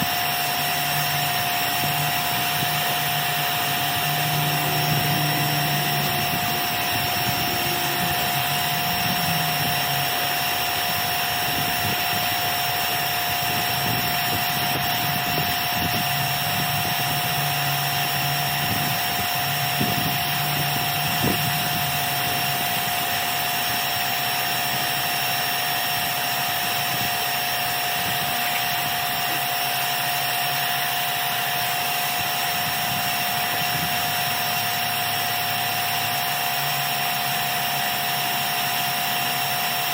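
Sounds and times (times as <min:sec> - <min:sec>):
pressure washer motor whine: 0:00.0 - 0:39.9.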